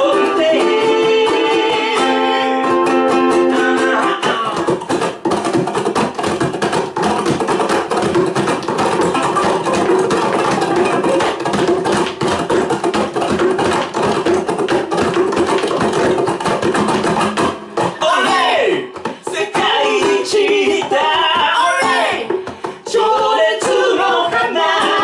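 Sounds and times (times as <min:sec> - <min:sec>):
ukuleles strumming rapidly: 0:00.0 - 0:25.0.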